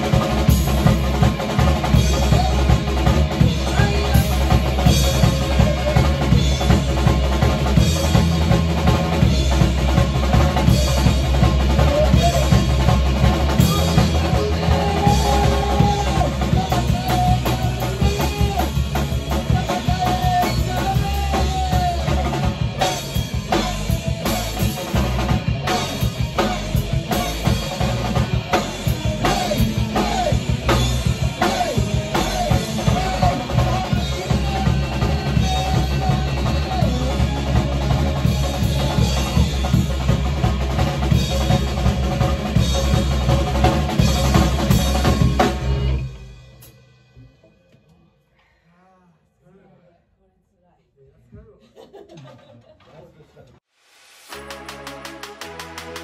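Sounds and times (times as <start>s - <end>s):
rock band playing: 0.0s - 47.6s, 54.2s - 56.0s.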